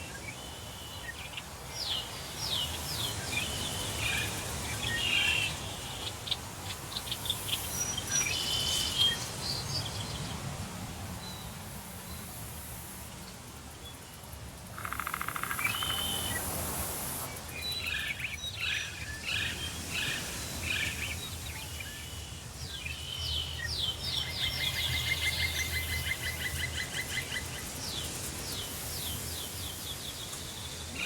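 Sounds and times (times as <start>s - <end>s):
wind through trees: 0.0s - 31.0s.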